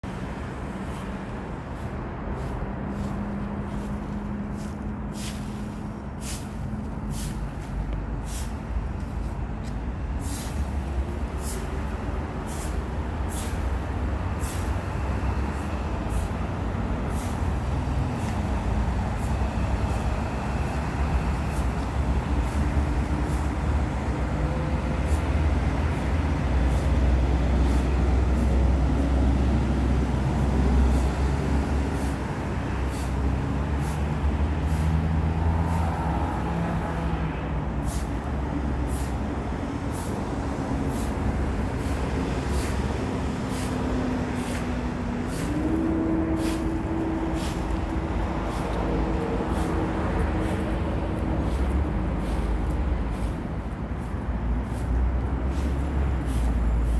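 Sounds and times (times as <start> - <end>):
broom sweeping dry leaves: 0.1 - 23.9, 24.8 - 37.2, 37.8 - 56.9.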